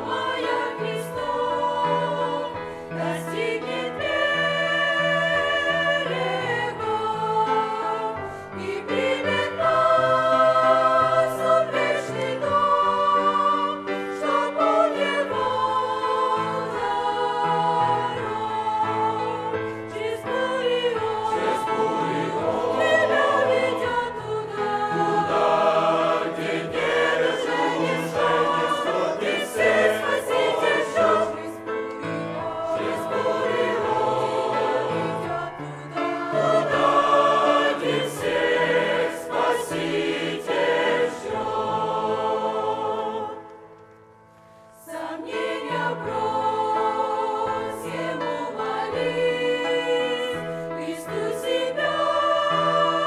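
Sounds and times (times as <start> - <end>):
mixed choir singing a hymn: 0.0 - 43.8, 44.7 - 53.0.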